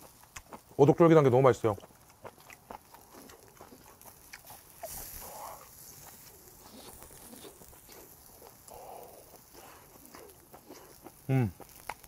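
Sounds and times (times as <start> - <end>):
chewing with wet smacks: 0.0 - 12.0.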